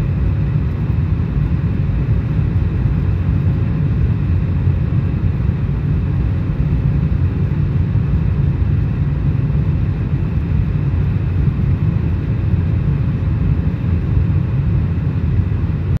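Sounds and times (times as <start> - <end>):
airliner cabin rumble: 0.0 - 16.0
faint steady hum: 0.0 - 16.0.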